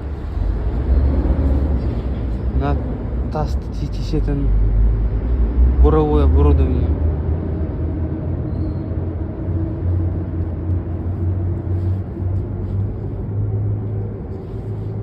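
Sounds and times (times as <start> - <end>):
low machinery drone: 0.0 - 15.0.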